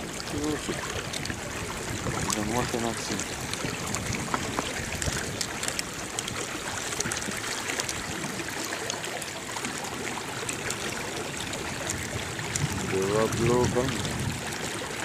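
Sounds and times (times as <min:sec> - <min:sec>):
small water splashes: 0:00.0 - 0:15.0
water lapping against hull: 0:00.0 - 0:15.0.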